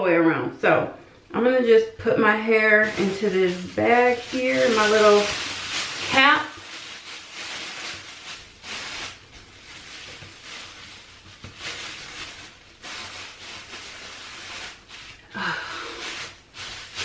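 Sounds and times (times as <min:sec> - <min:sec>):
plastic shower cap crinkling: 0:02.8 - 0:17.0.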